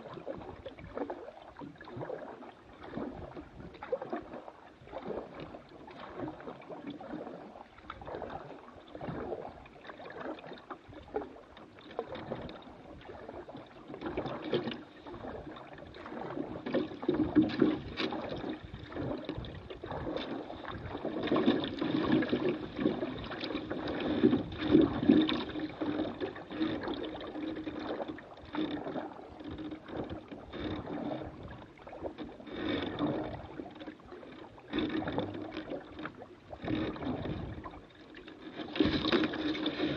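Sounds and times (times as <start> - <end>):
water gurgling along canoe hull: 0.0 - 39.9.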